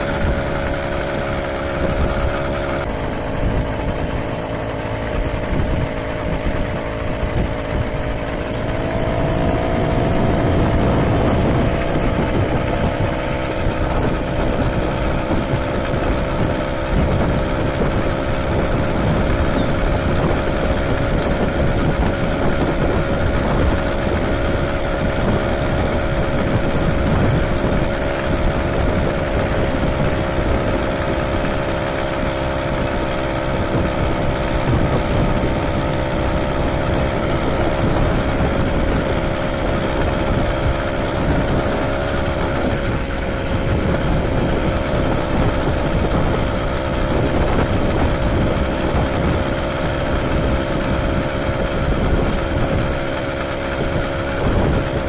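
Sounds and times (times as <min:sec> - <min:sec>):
small motorbike engine humming: 0:00.0 - 0:55.0
wind noise on microphone: 0:00.0 - 0:55.0.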